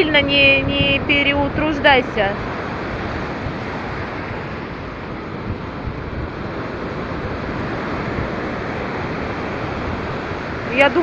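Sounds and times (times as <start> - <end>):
sea surf washing on beach: 0.0 - 11.0
wind buffeting microphone: 0.0 - 11.0.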